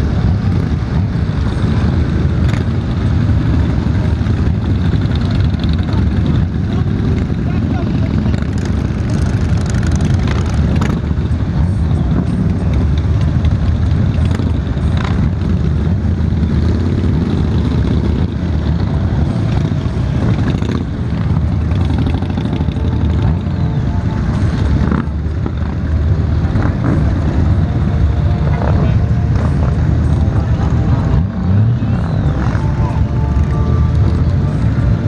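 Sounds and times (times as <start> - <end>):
motorcycle engines rumbling: 0.0 - 35.0.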